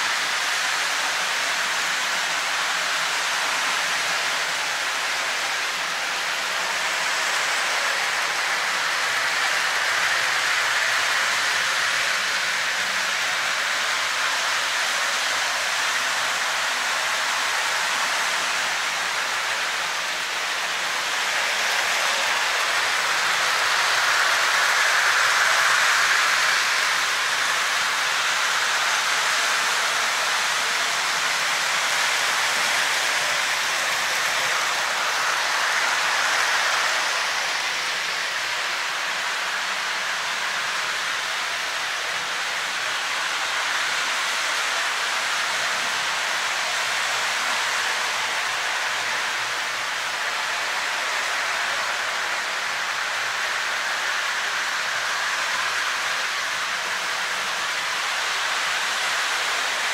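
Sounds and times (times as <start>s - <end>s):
model train rolling whir: 0.0s - 59.9s.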